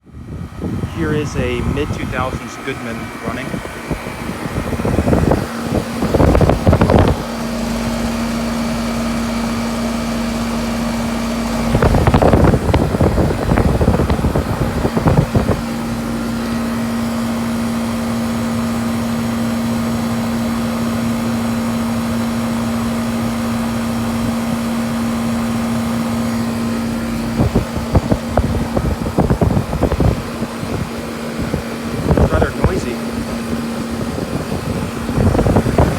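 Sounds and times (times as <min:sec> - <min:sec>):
air conditioner unit humming: 0:00.0 - 0:35.9.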